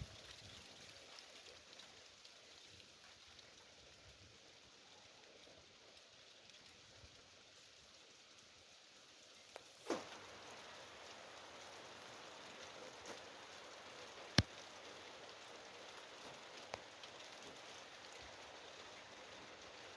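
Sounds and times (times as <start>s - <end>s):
faint steady rain: 0.0s - 19.9s.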